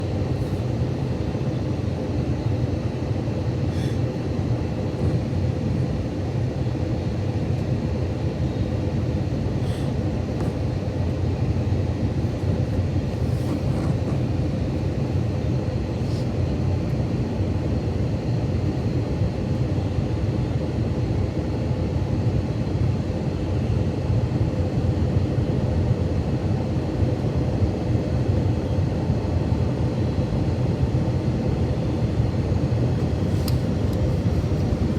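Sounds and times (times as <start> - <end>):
airplane cabin rumble: 0.0 - 19.0, 24.2 - 34.9
faint steady hum: 0.0 - 34.9.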